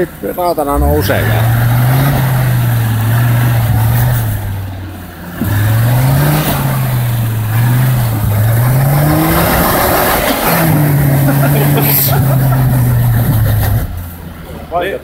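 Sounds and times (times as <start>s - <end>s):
engine labouring uphill: 0.0s - 15.0s.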